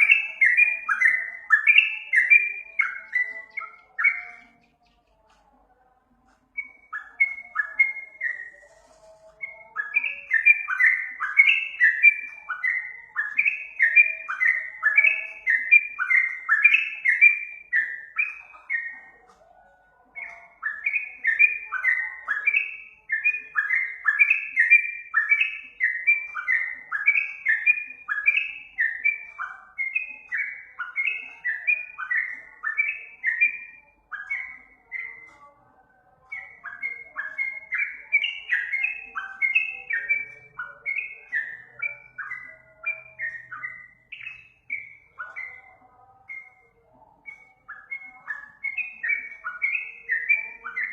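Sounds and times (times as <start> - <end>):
bulbul singing whistled notes: 0.0 - 5.5, 6.1 - 50.9.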